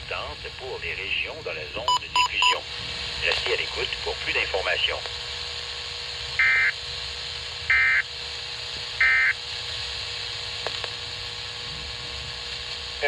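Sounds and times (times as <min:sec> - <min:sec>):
steady radio hiss: 0:00.0 - 0:13.0.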